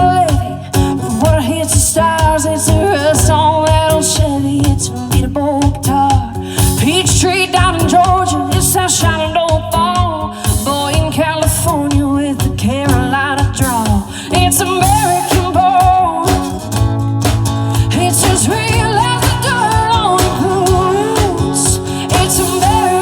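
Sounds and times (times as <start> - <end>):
person singing with vibrato: 0.0 - 16.7, 17.6 - 23.0
live band playing: 0.0 - 23.0
steady drum beats: 0.0 - 23.0.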